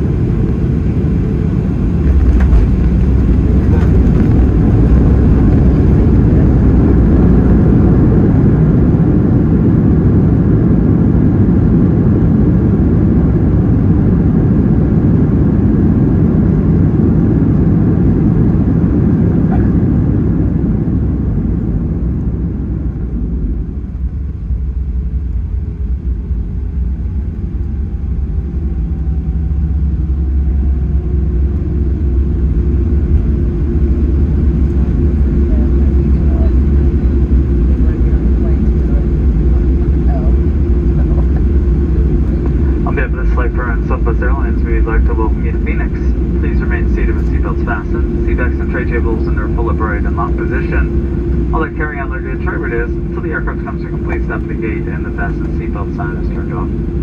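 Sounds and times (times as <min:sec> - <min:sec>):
airplane cabin rumble: 0:00.0 - 0:57.0
jet engines idling hum: 0:00.0 - 0:57.0.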